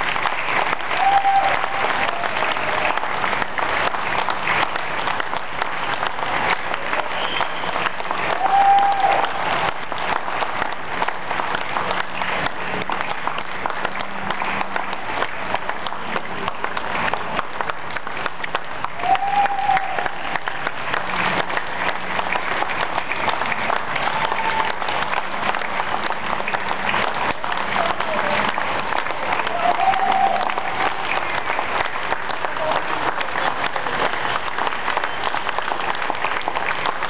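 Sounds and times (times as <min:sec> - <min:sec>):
crowd clapping: 0:00.0 - 0:37.0.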